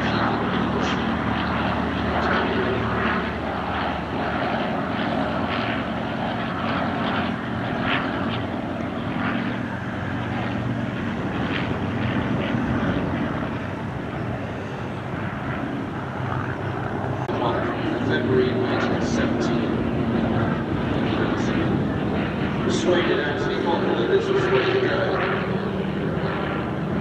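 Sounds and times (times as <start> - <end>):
propeller plane engines droning: 0.0 - 27.0.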